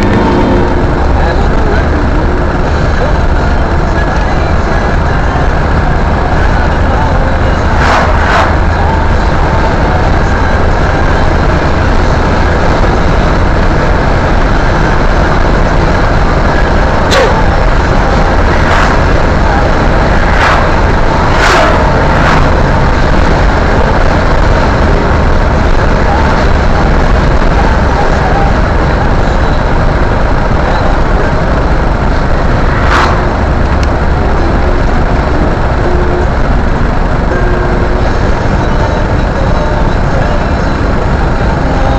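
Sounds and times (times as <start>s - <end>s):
car road noise: 0.0s - 41.9s.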